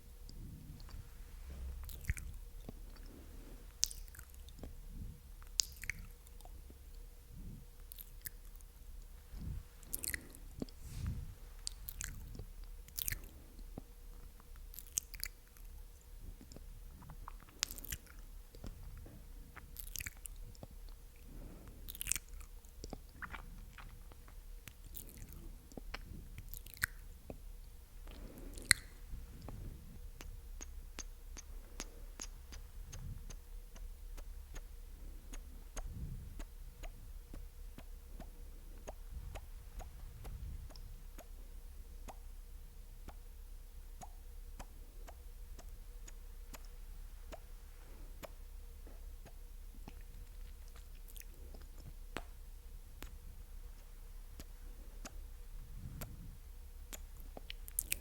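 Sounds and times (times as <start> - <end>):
wet tongue and lip clicks: 0.2 - 1.0, 1.8 - 3.1, 3.7 - 4.8, 5.4 - 7.0, 7.8 - 15.8, 16.4 - 21.3, 21.9 - 41.4, 42.0 - 42.4, 43.0 - 43.3, 43.9 - 47.6, 48.2 - 52.4, 53.0 - 58.0.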